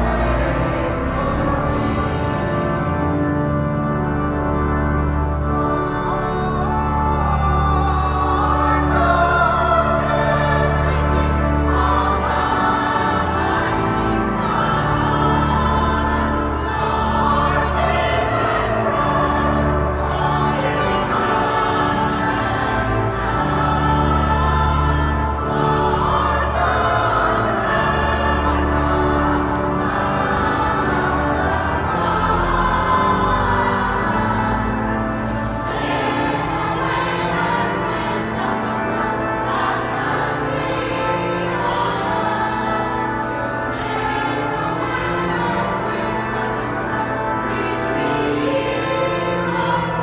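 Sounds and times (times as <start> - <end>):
choir singing in parts: 0.0 - 50.0
organ accompaniment: 0.0 - 50.0.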